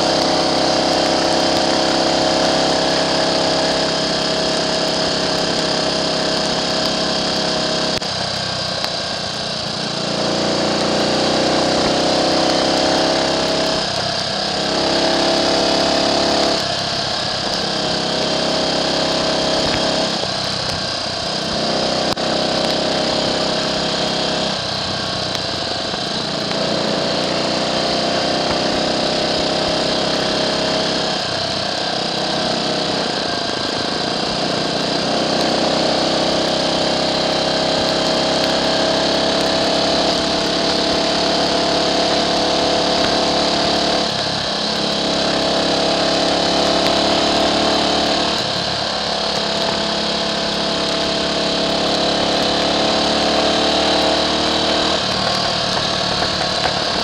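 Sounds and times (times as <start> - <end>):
motorcycle engine revving: 0.0 - 57.0
wind and wet road hiss: 0.0 - 57.0.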